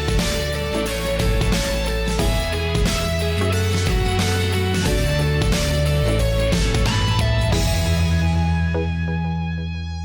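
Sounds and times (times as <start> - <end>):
guitar: 0.0 - 10.0
low bass notes: 0.0 - 10.0.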